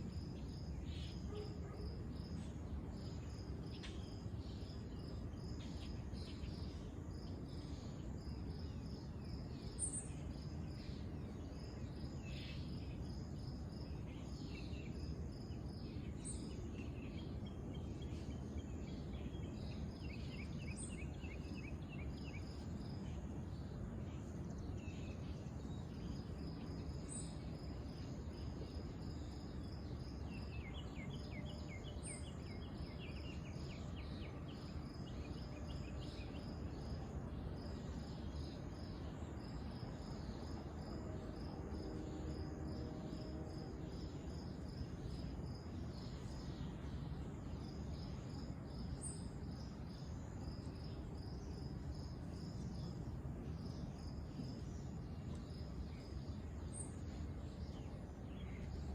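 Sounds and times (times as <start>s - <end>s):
insects chirping: 0.0s - 58.9s.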